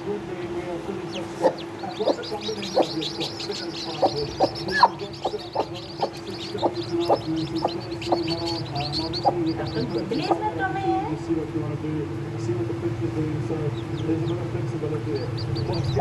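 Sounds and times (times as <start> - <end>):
chicks peeping: 0.0 - 16.0
hen clucking: 0.0 - 16.0
steady low hum: 0.0 - 16.0.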